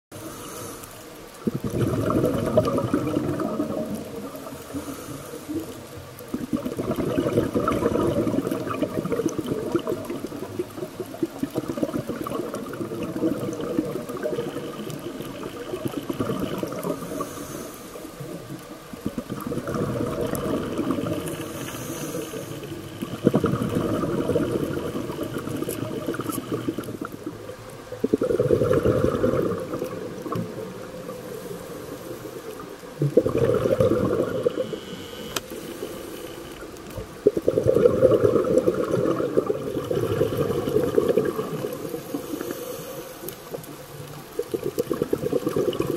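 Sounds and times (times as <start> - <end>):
underwater bubbles rushing: 0.2 - 45.9.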